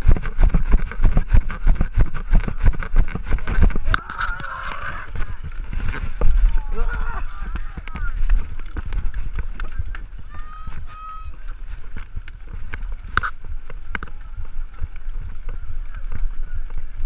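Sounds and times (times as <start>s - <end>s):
bike rattles and knocks: 0.0s - 17.0s
wind rumble on microphone: 0.0s - 17.0s.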